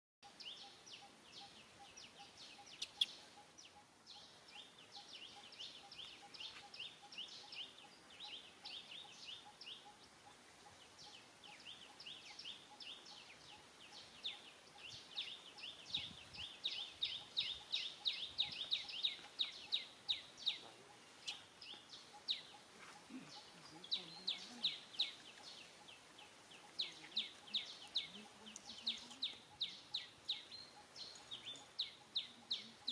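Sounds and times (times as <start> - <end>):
small birds chirping: 0.2 - 32.9.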